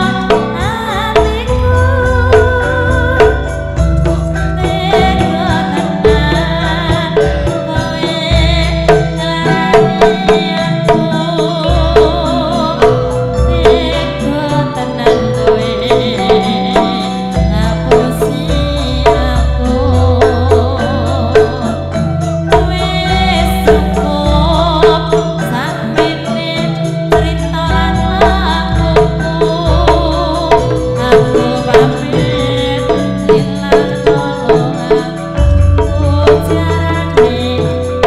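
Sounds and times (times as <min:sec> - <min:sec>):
drum strokes: 0:00.0 - 0:38.0
gamelan playing: 0:00.0 - 0:38.0
woman singing: 0:00.0 - 0:38.0.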